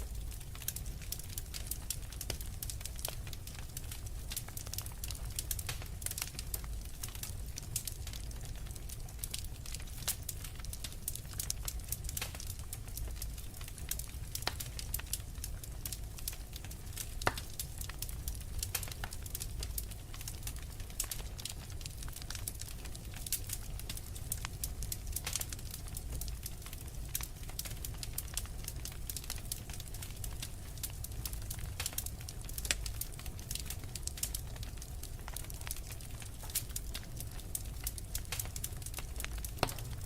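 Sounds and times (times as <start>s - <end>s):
low rumble of flames: 0.0s - 40.0s
wood fire crackling: 0.0s - 40.0s.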